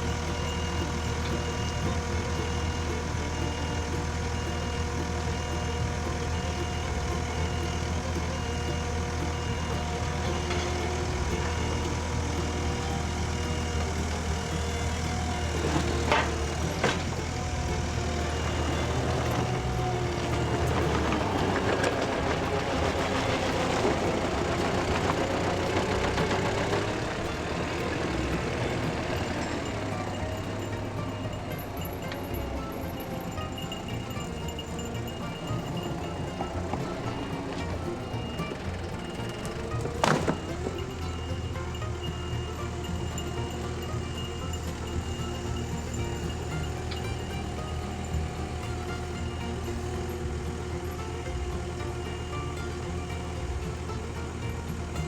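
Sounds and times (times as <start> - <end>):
loader engine running: 0.0 - 55.0.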